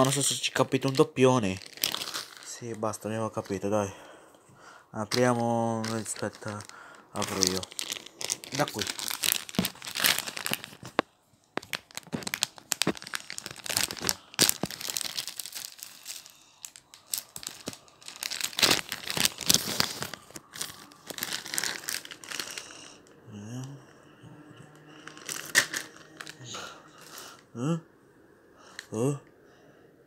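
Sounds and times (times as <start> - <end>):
foil packet crinkling and ripping: 0.0 - 3.7, 5.1 - 23.1, 24.9 - 27.4.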